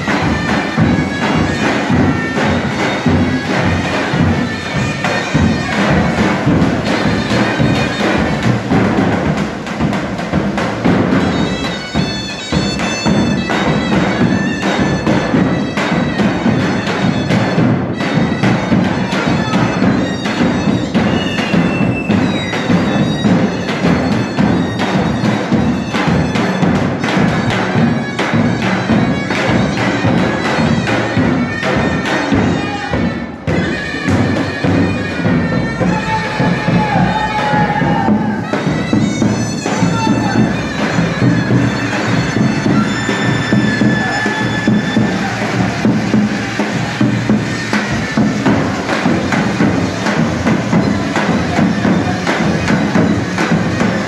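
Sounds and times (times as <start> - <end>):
fast dense drumming: 0.0 - 54.0
reed wind instrument melody: 0.0 - 54.0.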